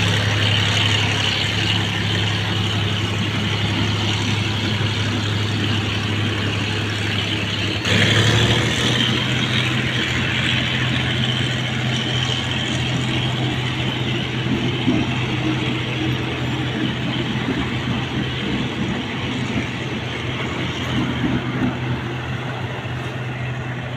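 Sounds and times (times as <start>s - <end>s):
locomotive engine humming: 0.0s - 23.9s.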